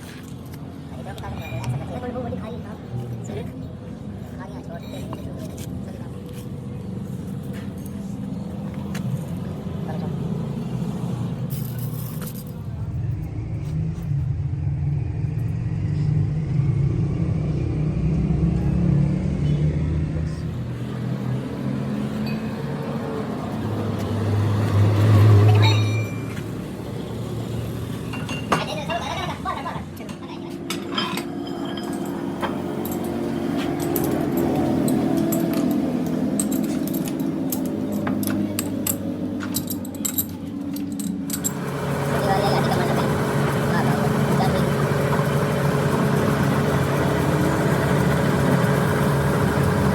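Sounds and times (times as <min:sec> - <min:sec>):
engine rumbling steadily: 0:00.0 - 0:49.9.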